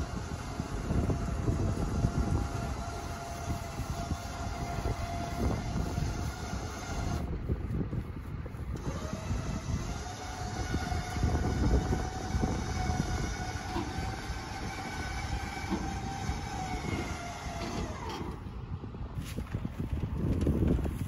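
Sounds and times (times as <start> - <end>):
tractor engine droning: 0.0 - 21.0
wind buffeting microphone: 0.0 - 21.0.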